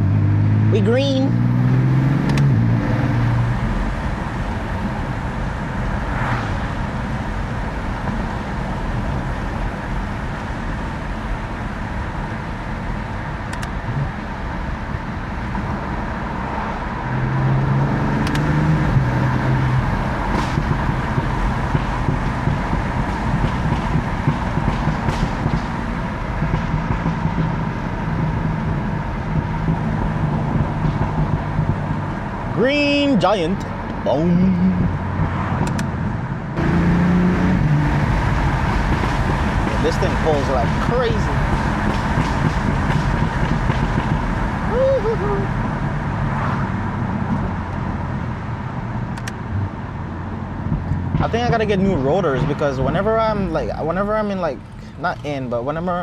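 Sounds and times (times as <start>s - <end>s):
car engine accelerating: 0.0s - 56.0s
road and tyre noise: 0.0s - 56.0s.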